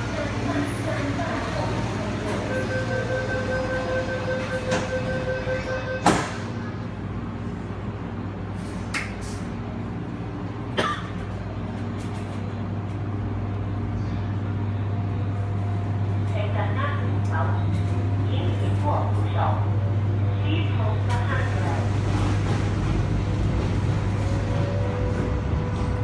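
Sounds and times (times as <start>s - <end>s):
train interior low hum: 0.0s - 26.0s.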